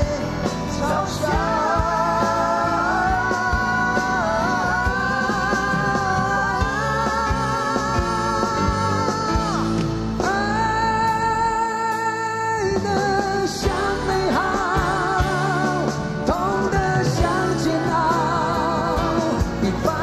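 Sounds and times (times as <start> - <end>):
live band music: 0.0 - 20.0
man singing long wordless notes: 0.0 - 20.0.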